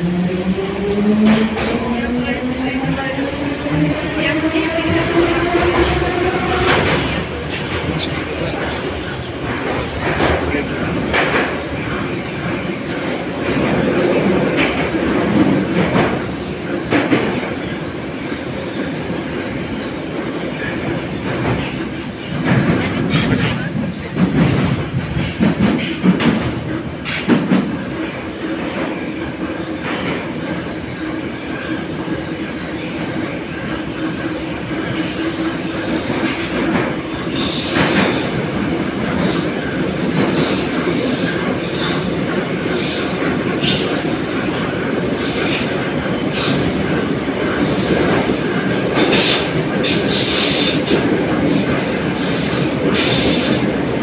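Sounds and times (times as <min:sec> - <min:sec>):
train wheels rumbling on rail: 0:00.0 - 0:54.0
rail-joint clicks: 0:03.8 - 0:17.6, 0:20.8 - 0:54.0.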